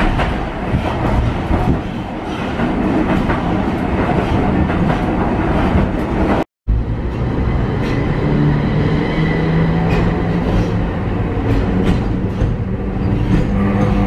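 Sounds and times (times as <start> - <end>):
tram wheels rumbling on rail: 0.0 - 14.0.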